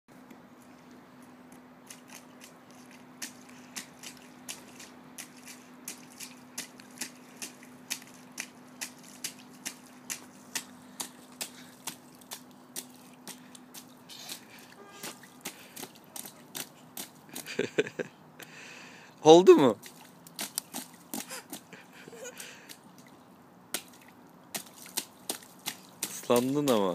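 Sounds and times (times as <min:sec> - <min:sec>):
rubber boots splashing in puddle: 0:01.8 - 0:17.9, 0:19.7 - 0:26.9.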